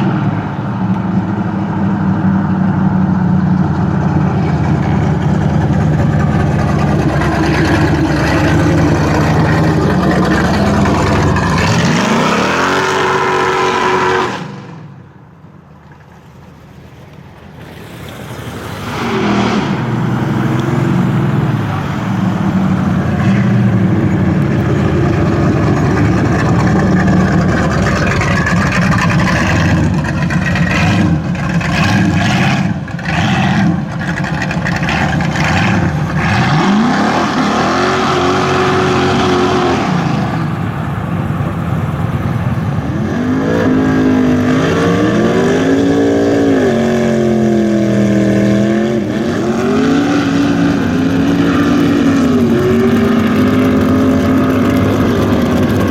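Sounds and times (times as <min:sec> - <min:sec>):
car engine revving: 0:00.0 - 0:15.0, 0:16.6 - 0:55.9.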